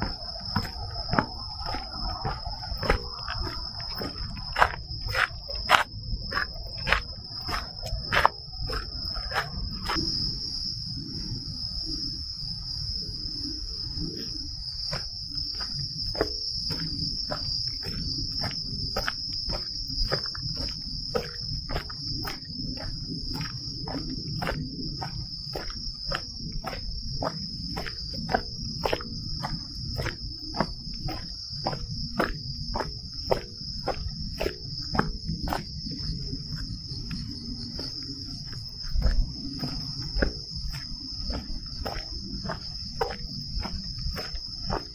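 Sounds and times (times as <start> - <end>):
footsteps on a trail: 0.0 - 11.6, 13.3 - 44.9
night insects chorus: 0.0 - 44.9.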